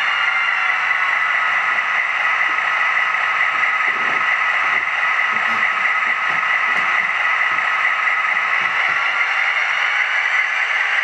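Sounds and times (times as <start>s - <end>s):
model train diesel engine sound: 0.0s - 11.0s.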